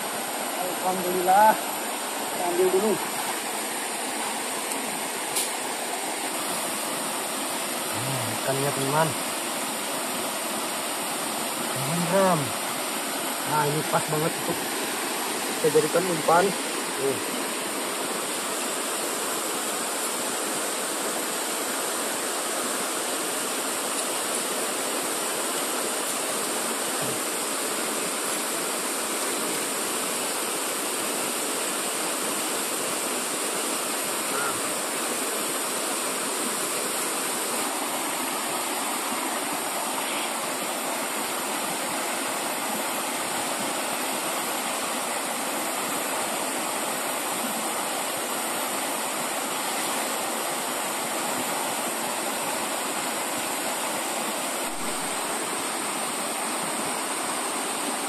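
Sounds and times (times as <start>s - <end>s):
river water over rapids: 0.0s - 58.0s.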